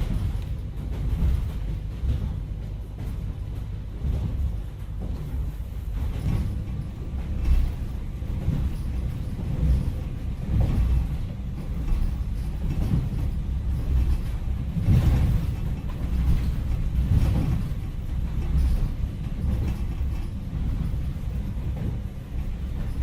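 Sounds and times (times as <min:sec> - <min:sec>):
deep low rumbling: 0:00.0 - 0:23.0.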